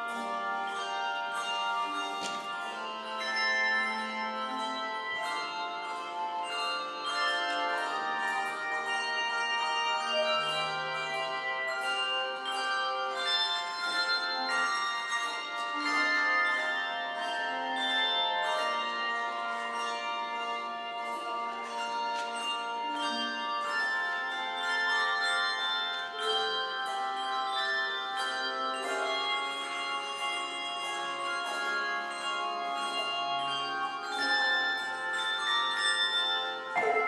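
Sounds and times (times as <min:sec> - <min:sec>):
handbell choir playing: 0:00.0 - 0:37.0.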